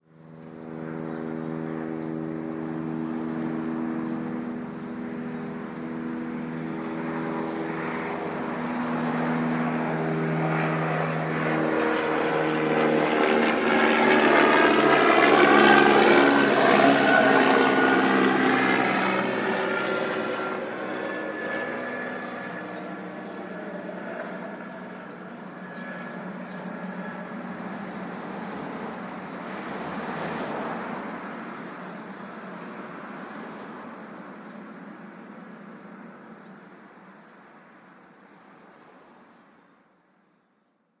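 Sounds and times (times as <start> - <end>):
low-flying aircraft engine drone: 0.0 - 41.0.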